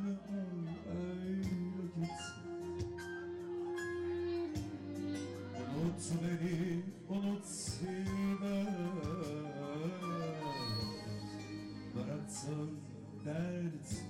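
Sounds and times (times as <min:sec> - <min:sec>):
electronic keyboard playing: 0:00.0 - 0:14.0
live band music: 0:01.3 - 0:12.7.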